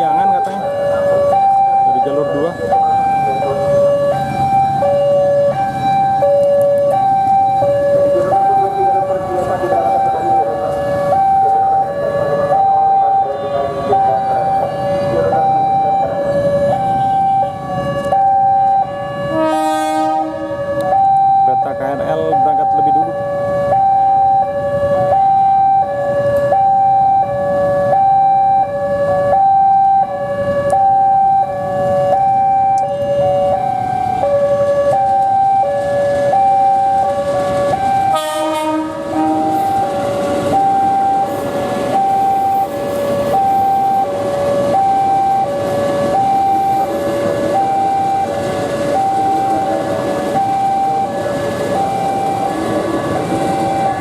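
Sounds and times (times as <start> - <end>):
passing train rumble: 0.0 - 27.9, 30.0 - 54.0
level-crossing warning sirens: 0.0 - 54.0.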